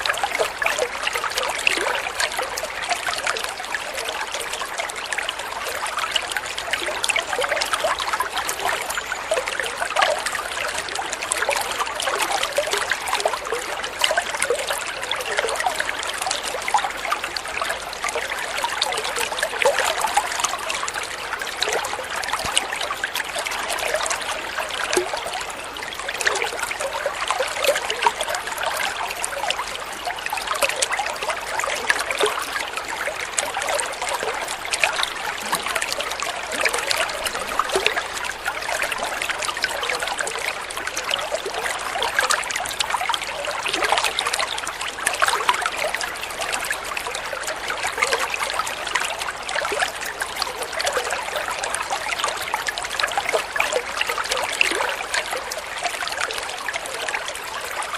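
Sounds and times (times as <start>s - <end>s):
water trickling and burbling: 0.0s - 57.9s.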